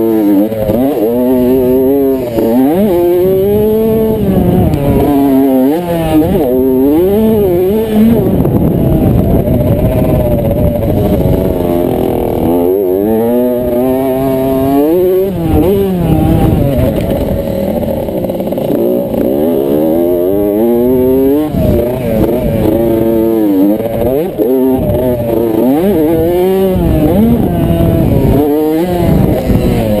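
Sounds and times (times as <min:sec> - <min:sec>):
low wind rumble: 0:00.0 - 0:30.0
motocross bike engine revving: 0:00.0 - 0:30.0.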